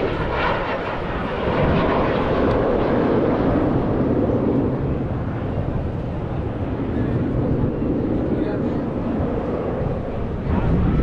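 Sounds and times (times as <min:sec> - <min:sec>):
airplane flying overhead: 0:00.0 - 0:11.0.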